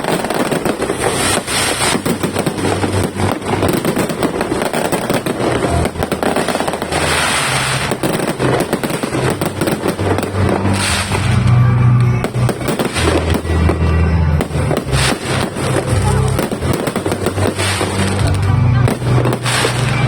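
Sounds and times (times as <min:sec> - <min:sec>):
fireworks bangs and crackles: 0:00.0 - 0:20.0
music with low bass: 0:00.0 - 0:20.0.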